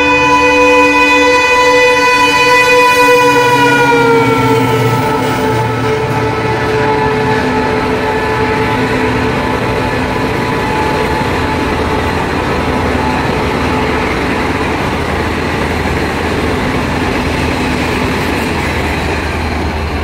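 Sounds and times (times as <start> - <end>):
train rushing past: 0.0 - 20.0.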